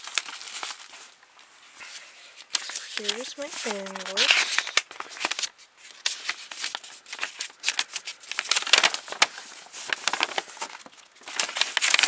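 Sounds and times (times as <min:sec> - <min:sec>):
paper and plastic wrapping crinkling: 0:00.0 - 0:12.0.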